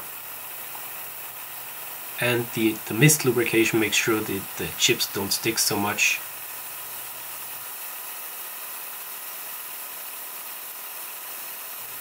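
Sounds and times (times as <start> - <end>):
hiss of compressed air nozzle: 0.0 - 12.0.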